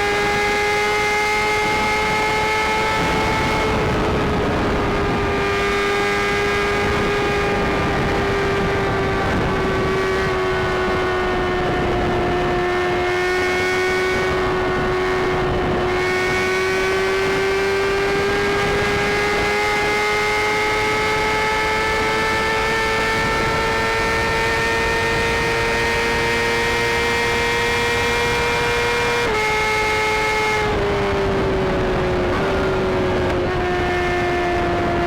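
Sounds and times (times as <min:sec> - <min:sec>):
motorcycle engine at high revs: 0:00.0 - 0:35.0
wind and road noise: 0:00.0 - 0:35.0.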